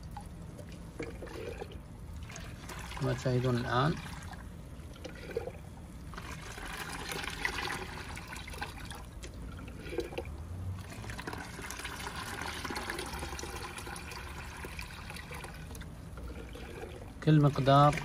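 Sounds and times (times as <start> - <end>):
jar sloshing in water: 0.0 - 18.0
liquid pouring into a bucket: 0.0 - 18.0.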